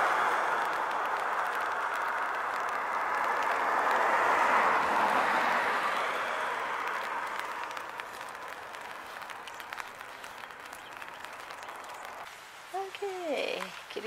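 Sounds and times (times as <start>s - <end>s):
rain pattering on an umbrella: 0.0s - 14.0s
tyres hissing on wet road: 0.0s - 14.0s.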